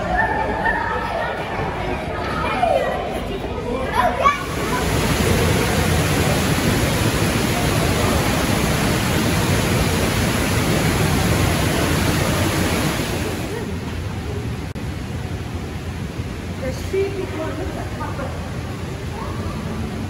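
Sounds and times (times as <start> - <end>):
rushing water: 3.6 - 20.0.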